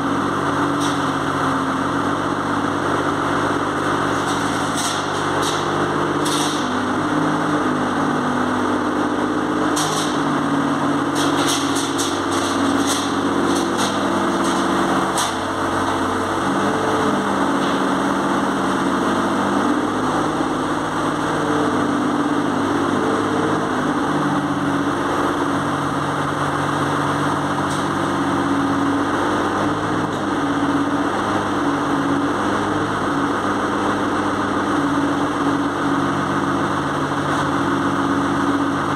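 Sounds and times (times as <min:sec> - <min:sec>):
excavator diesel engine: 0:00.0 - 0:38.9.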